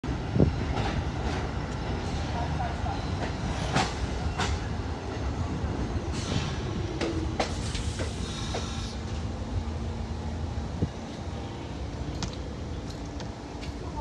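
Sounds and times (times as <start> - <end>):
steady train hum: 0.0 - 14.0
train wheels rumbling on rail: 0.0 - 14.0.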